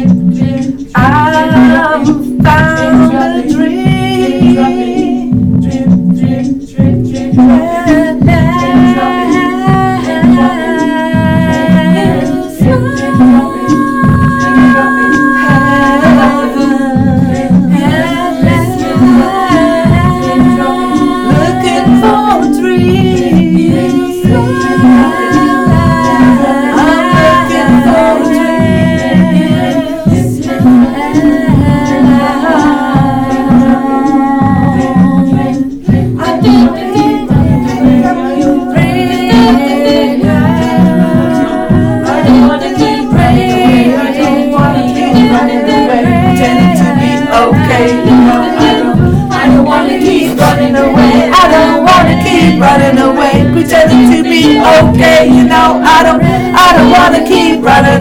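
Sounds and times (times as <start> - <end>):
person singing: 0.0 - 58.0
steady music beat: 0.0 - 58.0.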